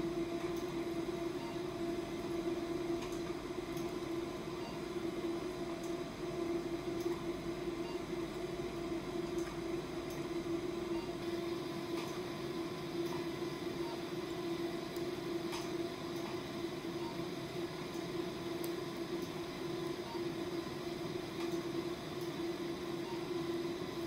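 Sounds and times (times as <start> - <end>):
electrical machine hum: 0.0 - 24.0.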